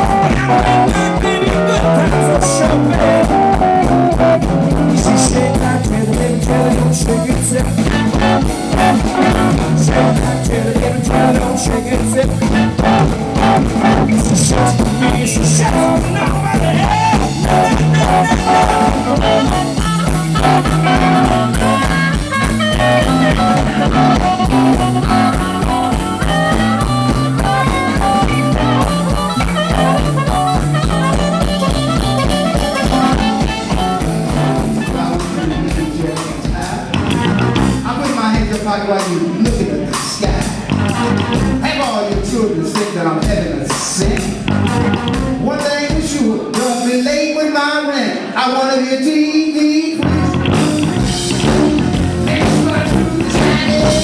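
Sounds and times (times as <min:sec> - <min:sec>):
drum kit: 0:00.0 - 0:47.2, 0:50.0 - 0:54.0
blues band playing: 0:00.0 - 0:54.0
guitar: 0:00.0 - 0:54.0.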